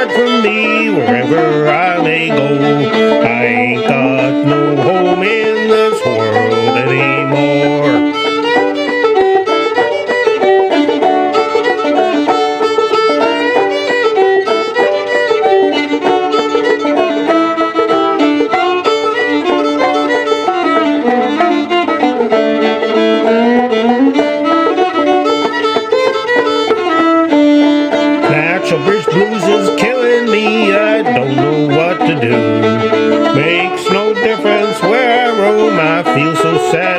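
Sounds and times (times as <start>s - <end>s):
clawhammer banjo: 0.0s - 36.9s
fiddle playing melody: 0.0s - 36.9s.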